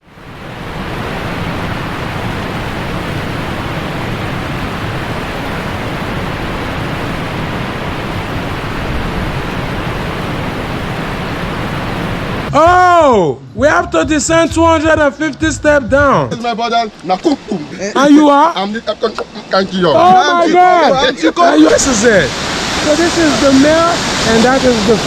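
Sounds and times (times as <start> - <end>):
waterfall roaring: 0.0 - 12.5, 16.8 - 25.0.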